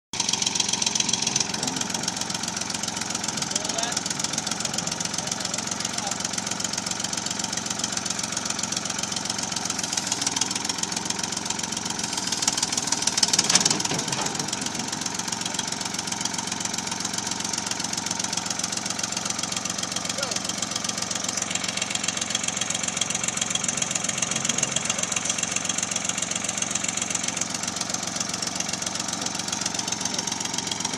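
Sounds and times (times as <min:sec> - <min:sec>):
backhoe engine running: 0:00.2 - 0:30.9.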